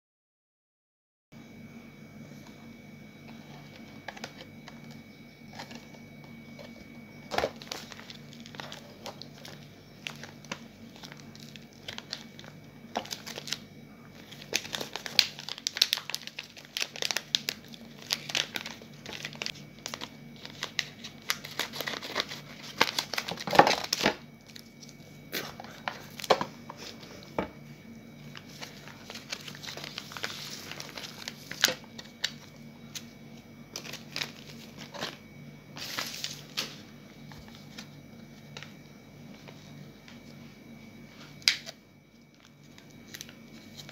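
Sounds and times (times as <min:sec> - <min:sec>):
faint steady hum: 0:01.4 - 0:43.9
plastic wrapper crinkling: 0:03.3 - 0:27.1, 0:28.2 - 0:35.2, 0:35.8 - 0:38.8, 0:41.4 - 0:43.9.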